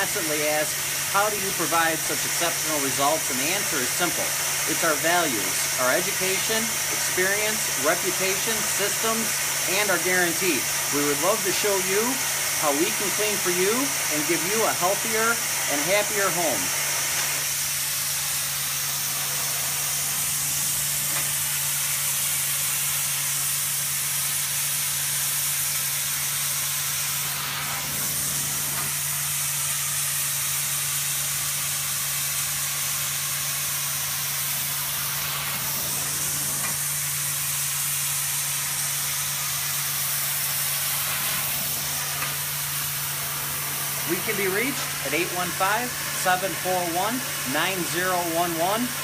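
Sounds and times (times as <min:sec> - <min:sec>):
extraction machine hum: 0:00.0 - 0:30.7, 0:33.0 - 0:49.0
suction hiss through wand: 0:00.0 - 0:48.7.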